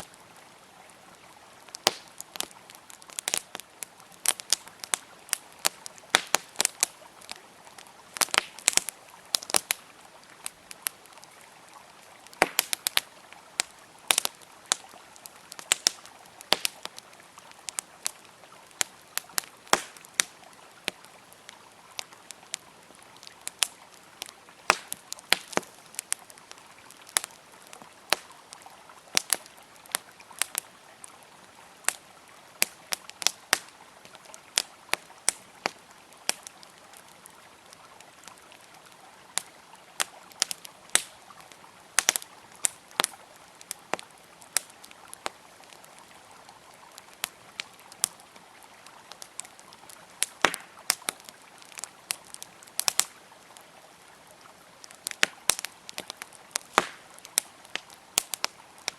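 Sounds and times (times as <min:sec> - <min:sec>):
flowing river water: 0:00.0 - 0:58.9
wood fire crackling and popping: 0:01.1 - 0:31.2, 0:31.8 - 0:53.7, 0:54.4 - 0:58.9.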